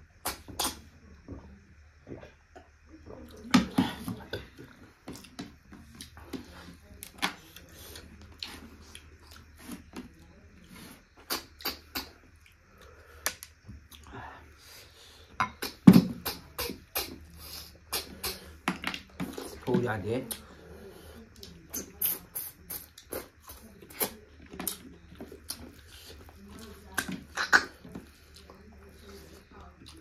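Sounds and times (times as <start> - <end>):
wet chewing and sucking: 0.2 - 0.8, 3.4 - 14.8, 15.5 - 20.5, 21.3 - 30.0.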